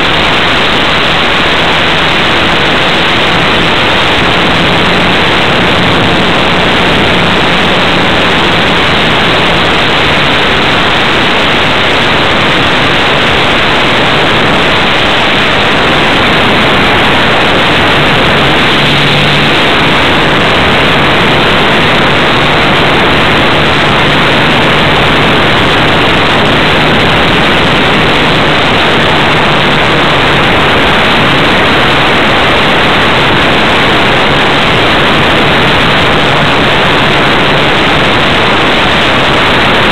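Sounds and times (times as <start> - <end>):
model airplane motor droning: 0.0 - 39.2
air rushing over camera: 0.0 - 39.9.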